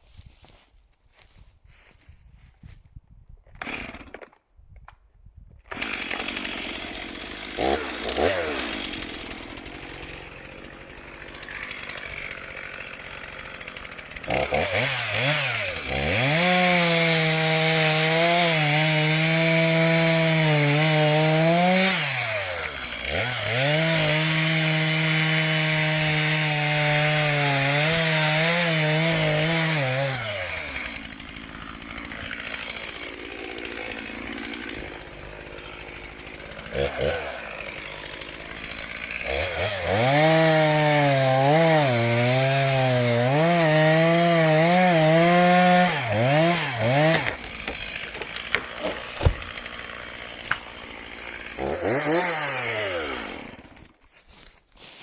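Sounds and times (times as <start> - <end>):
chainsaw cutting into wood: 3.5 - 4.4, 5.6 - 55.0.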